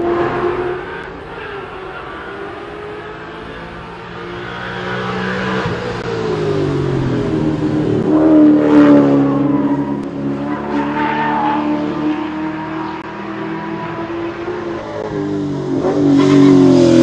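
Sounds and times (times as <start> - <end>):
race car engine passing: 0.0 - 17.0.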